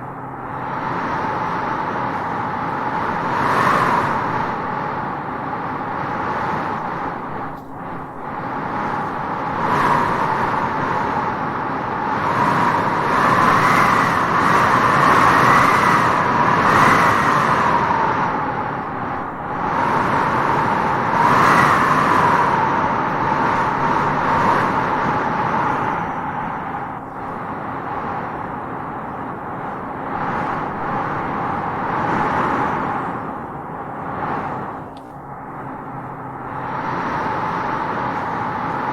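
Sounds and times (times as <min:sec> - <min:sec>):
wind blowing in gusts: 0:00.0 - 0:38.9.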